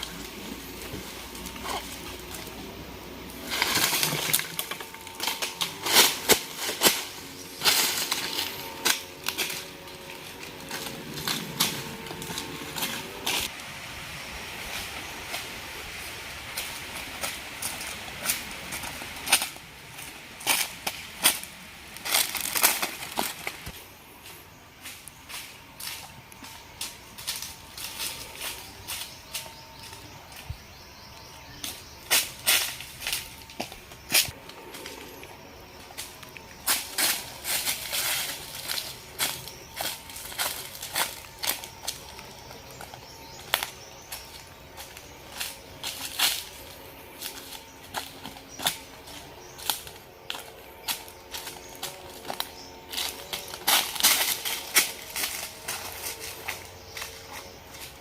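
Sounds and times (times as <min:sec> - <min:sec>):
dry leaves and twigs crunching: 0:00.0 - 0:13.7, 0:14.3 - 0:58.0
faint steady hum: 0:00.0 - 0:58.0.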